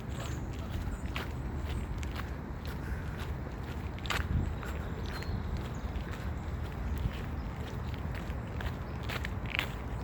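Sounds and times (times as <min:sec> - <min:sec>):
footsteps on a path: 0:00.0 - 0:10.0.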